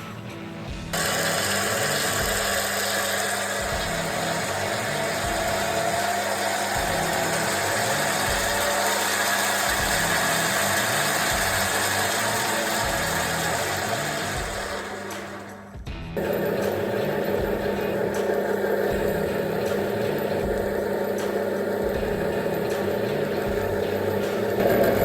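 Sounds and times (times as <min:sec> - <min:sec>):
lathe motor whine: 0:01.0 - 0:15.6, 0:16.2 - 0:25.0.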